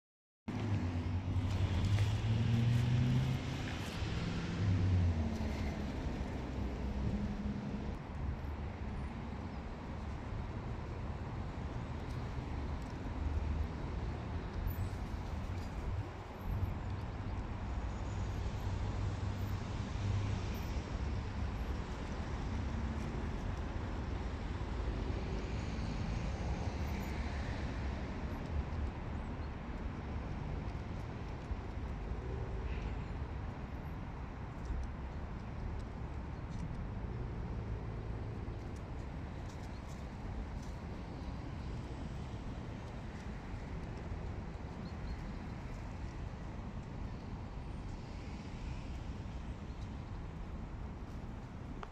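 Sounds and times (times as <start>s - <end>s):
traffic background rumble: 0.5s - 51.9s.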